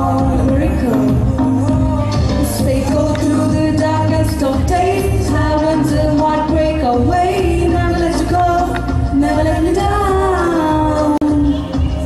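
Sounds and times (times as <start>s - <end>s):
backing music with steady beat: 0.0s - 12.0s
girl singing into microphone: 0.0s - 12.0s.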